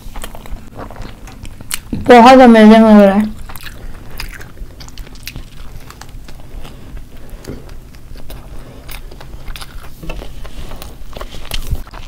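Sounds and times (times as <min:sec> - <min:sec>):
people chewing pizza: 0:00.0 - 0:12.0.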